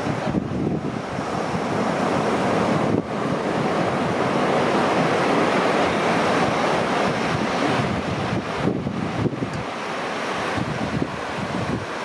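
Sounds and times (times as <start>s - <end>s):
sea surf rushing: 0.0s - 12.0s
wind noise on microphone: 0.0s - 12.0s.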